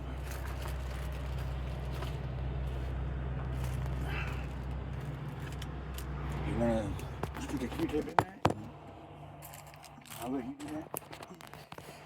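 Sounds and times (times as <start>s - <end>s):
low droning hum: 0.0s - 10.2s.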